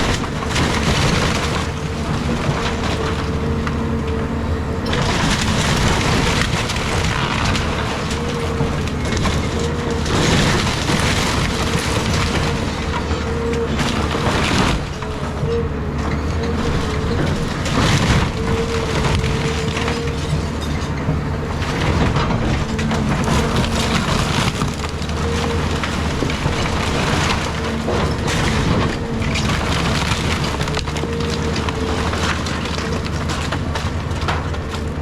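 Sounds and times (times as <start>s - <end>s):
timber splintering: 0.0s - 3.9s, 4.9s - 15.4s, 16.1s - 35.0s
debris crashing down: 0.0s - 4.1s, 4.8s - 35.0s
excavator engine under load: 0.0s - 35.0s.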